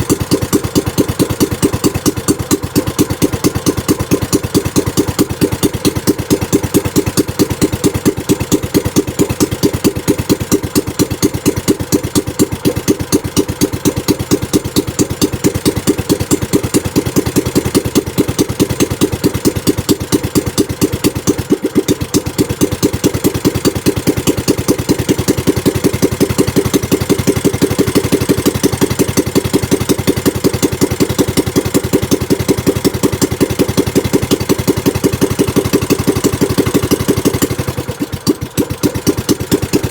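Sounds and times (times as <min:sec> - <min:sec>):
small boat engine idling: 0:00.0 - 0:39.9.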